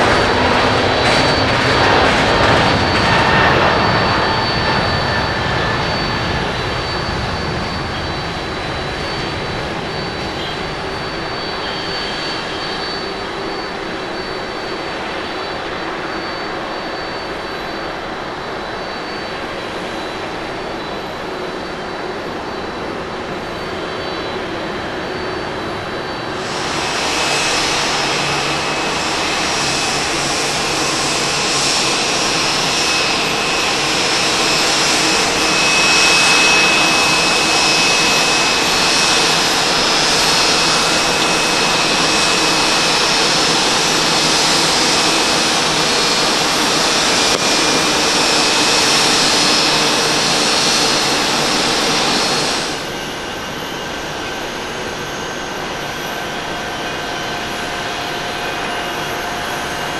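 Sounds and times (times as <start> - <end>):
jet engines at takeoff: 0.0 - 59.9
jet plane taxiing: 0.0 - 59.9.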